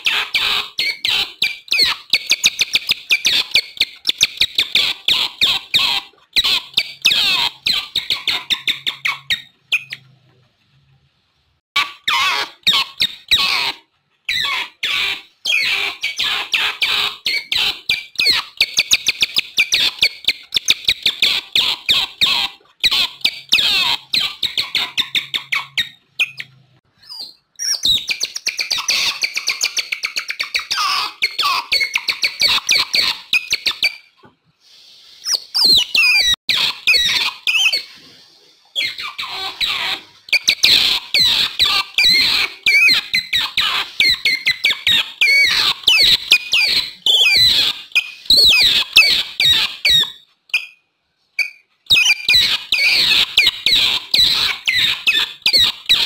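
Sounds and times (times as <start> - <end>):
otters chirping and squeaking: 0.0 - 10.9, 11.8 - 34.3, 35.0 - 56.0.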